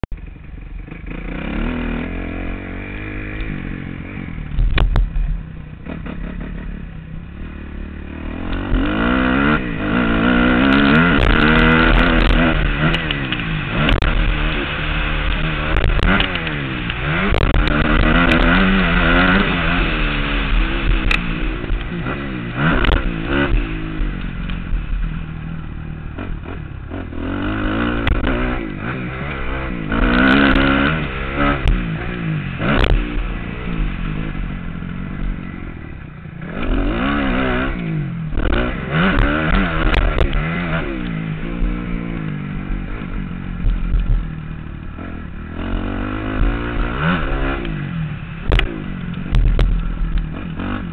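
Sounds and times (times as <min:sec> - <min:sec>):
motocross engine revving: 0:00.0 - 0:50.9.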